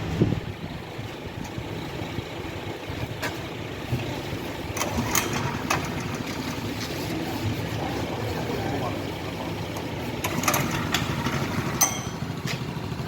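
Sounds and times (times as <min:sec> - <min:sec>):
heavy diesel machinery running: 0:00.0 - 0:13.0.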